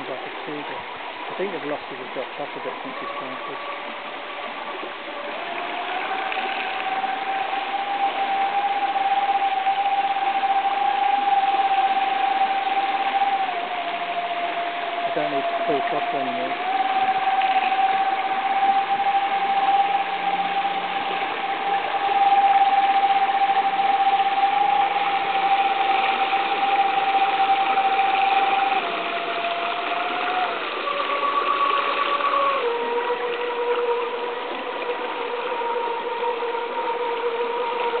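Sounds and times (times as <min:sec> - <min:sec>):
boat motors whining: 0:00.0 - 0:38.0
fast river water rushing: 0:00.0 - 0:38.0.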